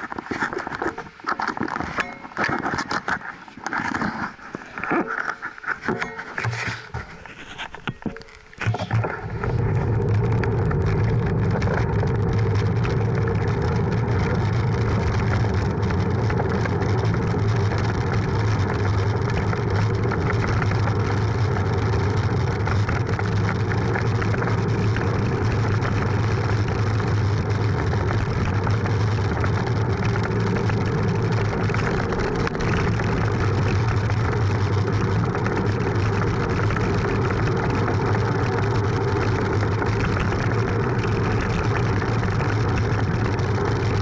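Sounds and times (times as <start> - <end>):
tyre and road vibration: 0.0 - 44.0.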